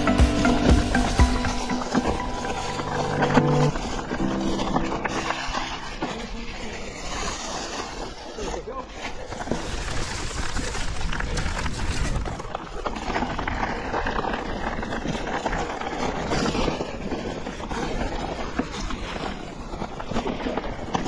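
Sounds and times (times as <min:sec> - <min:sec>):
bike rattling over bumps: 0:00.0 - 0:21.0
tyres crunching on gravel: 0:00.0 - 0:21.0.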